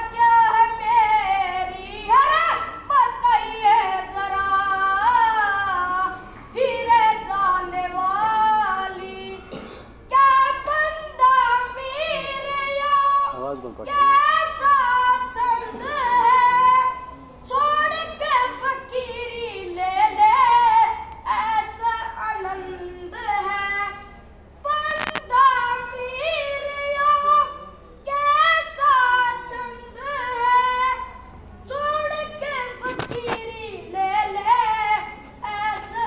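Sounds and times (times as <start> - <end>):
boy singing unaccompanied: 0.0 - 36.0.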